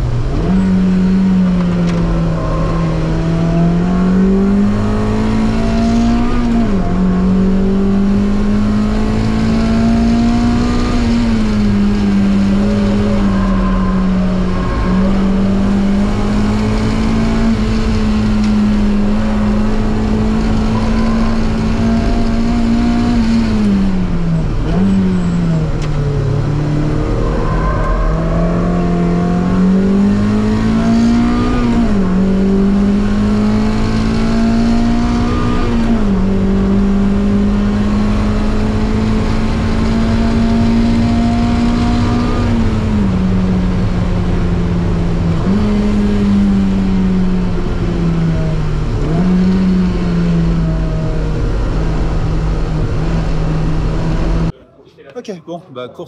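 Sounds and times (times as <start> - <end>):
racing car engine revving: 0.0 - 54.5.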